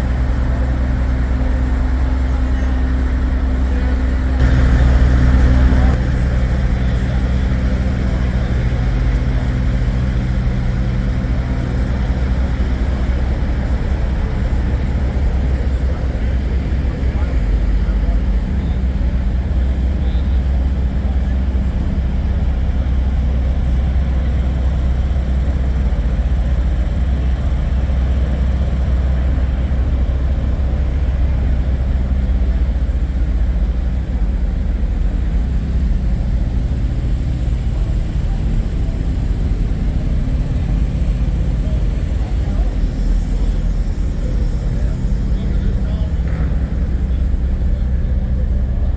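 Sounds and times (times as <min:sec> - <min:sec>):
diesel truck engines idling: 0:00.0 - 0:48.9
faint crowd chatter: 0:00.0 - 0:48.9.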